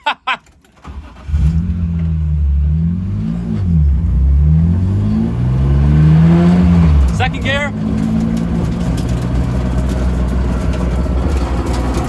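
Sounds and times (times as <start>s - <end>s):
race car engine starting and revving: 0.8s - 12.0s.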